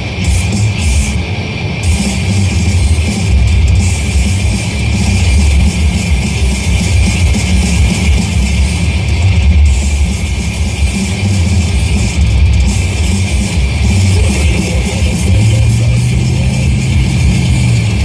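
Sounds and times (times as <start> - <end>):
heavy rock music on radio: 0.0 - 18.0.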